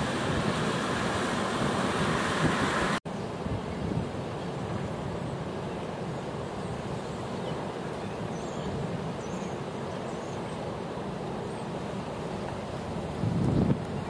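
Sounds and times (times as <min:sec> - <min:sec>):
flooded river rushing: 0:00.0 - 0:14.0.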